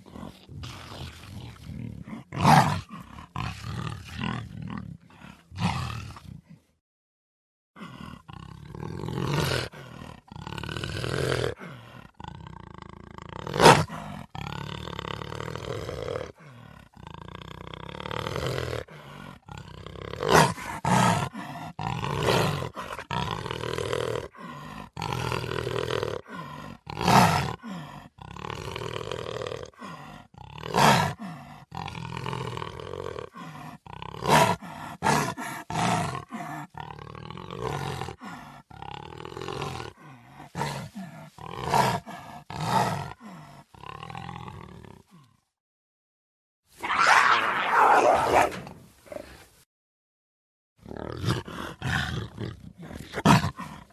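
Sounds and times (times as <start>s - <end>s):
jaguar roaring: 0.0s - 6.3s, 7.8s - 45.1s, 46.8s - 49.3s, 50.8s - 53.9s.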